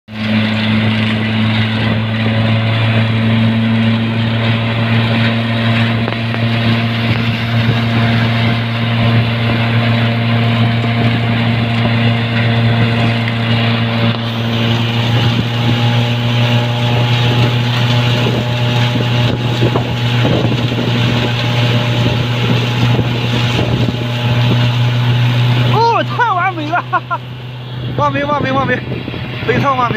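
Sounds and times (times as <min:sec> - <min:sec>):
tractor engine running: 0:00.0 - 0:29.9
baler machinery working: 0:00.1 - 0:29.9
high steady whine: 0:00.1 - 0:29.9.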